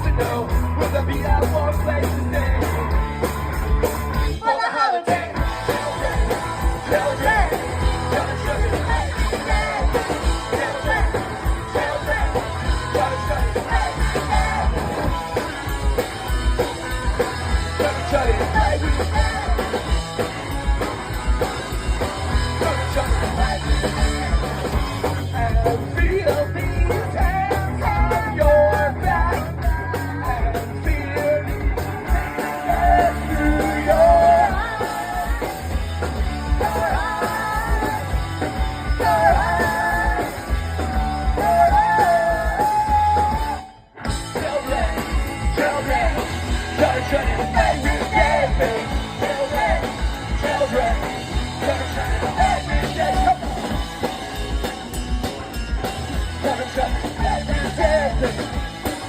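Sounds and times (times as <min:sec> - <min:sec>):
rock band playing live: 0:00.0 - 0:59.0
high melodic line: 0:05.2 - 0:59.0.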